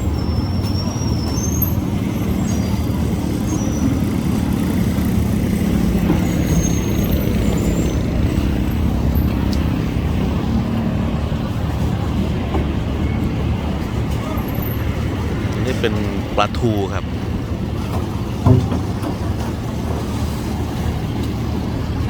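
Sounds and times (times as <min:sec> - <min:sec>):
engines rumbling: 0:00.0 - 0:22.0.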